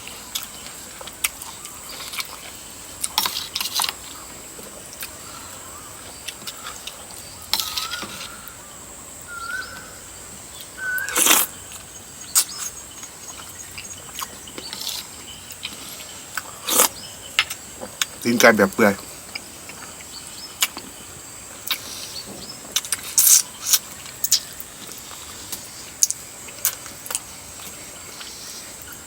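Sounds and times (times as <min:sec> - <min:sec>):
chewing and slurping: 0:00.0 - 0:08.6, 0:10.6 - 0:18.2, 0:19.0 - 0:29.0.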